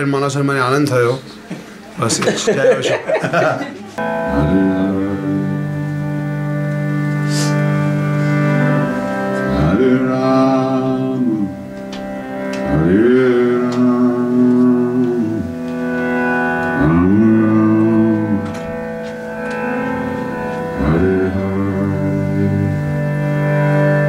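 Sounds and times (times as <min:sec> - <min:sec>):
slow music with singing: 0:04.0 - 0:24.0
steady drone: 0:04.0 - 0:24.0.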